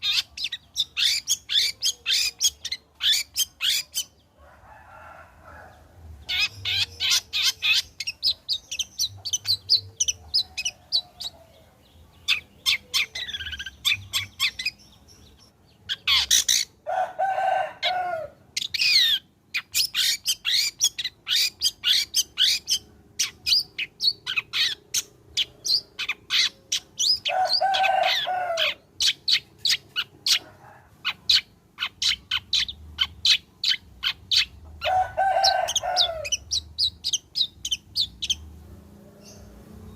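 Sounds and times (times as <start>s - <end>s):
shrike chirping song: 0.0s - 4.2s, 6.2s - 16.8s, 18.5s - 38.6s.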